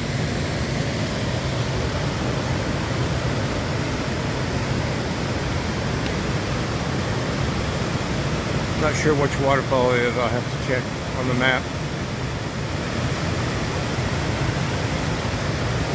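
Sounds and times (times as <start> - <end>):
river rushing over rapids: 0.0 - 15.9.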